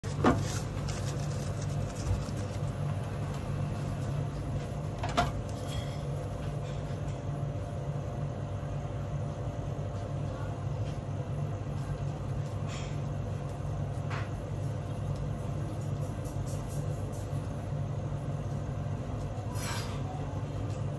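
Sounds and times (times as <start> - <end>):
kitchen equipment hum: 0.0 - 20.9.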